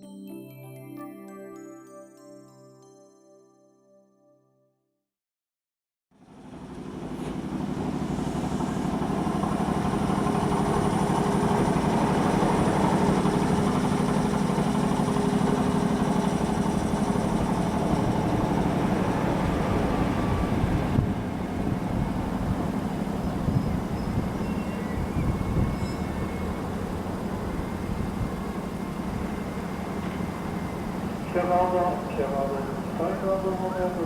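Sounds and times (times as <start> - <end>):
electric train motor whine: 6.2 - 34.0
train wheels rumbling: 6.3 - 34.0.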